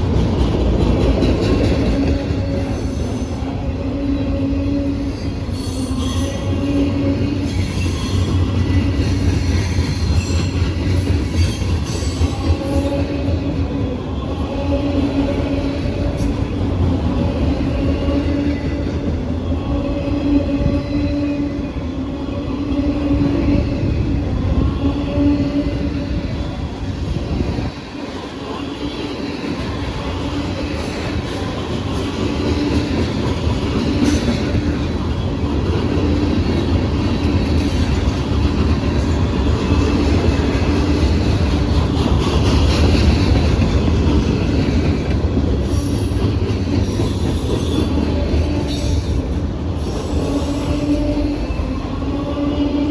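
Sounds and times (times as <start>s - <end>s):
freight train wheels clacking on rails: 0.0s - 3.6s, 4.2s - 20.8s, 25.9s - 52.6s.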